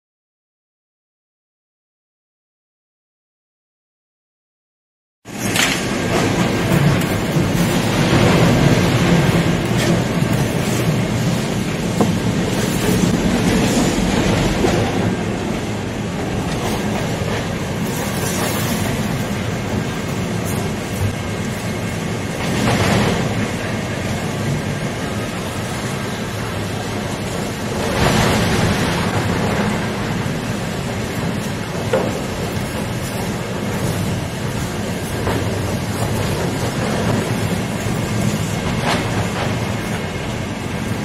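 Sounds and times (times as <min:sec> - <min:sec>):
foam compactor running: 0:05.3 - 0:15.0, 0:17.2 - 0:41.0.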